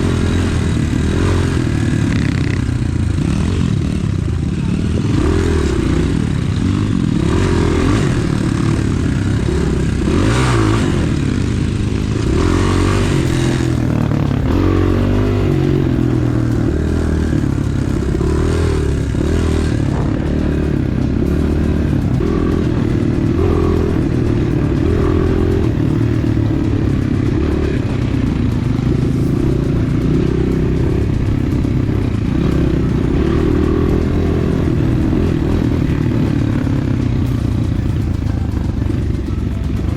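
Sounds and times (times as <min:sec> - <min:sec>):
bike rattling over rough ground: 0:00.0 - 0:39.9
dirt bike engine revving: 0:00.0 - 0:39.9.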